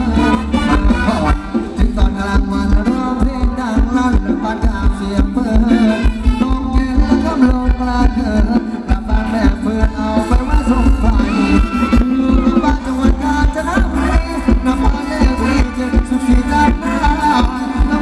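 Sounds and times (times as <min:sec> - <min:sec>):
heavy bass: 0:00.0 - 0:18.0
live band playing dance music: 0:00.0 - 0:18.0
steady drum beat: 0:00.0 - 0:18.0.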